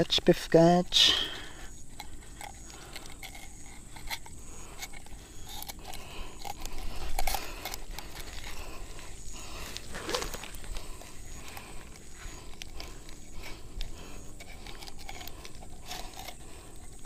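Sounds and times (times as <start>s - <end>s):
pliers clicking and scraping: 1.7s - 17.0s.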